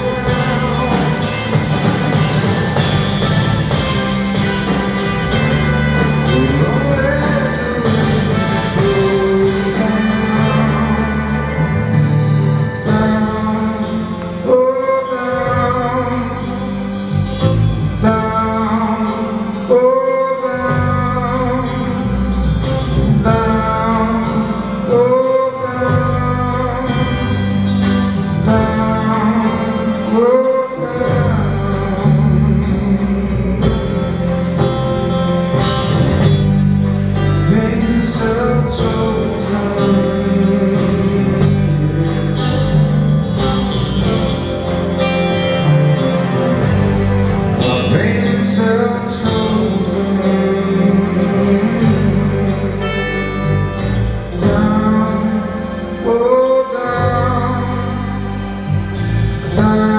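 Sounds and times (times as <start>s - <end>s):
bass guitar: 0.0s - 59.9s
drums: 0.0s - 59.9s
electric guitar: 0.0s - 59.9s
man singing: 0.0s - 59.9s
symphony orchestra: 0.0s - 59.9s.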